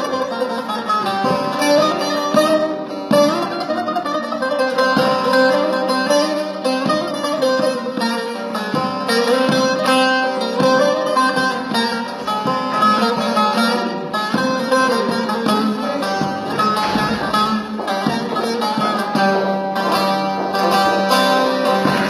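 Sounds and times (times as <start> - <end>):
plucked-string melody with accompaniment: 0.0 - 22.0.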